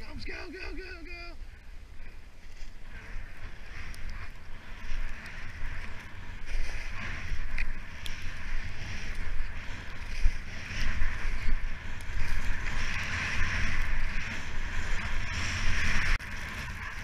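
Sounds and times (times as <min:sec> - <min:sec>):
skis scraping through snow: 0:00.0 - 0:17.0
wind buffeting microphone: 0:00.0 - 0:17.0.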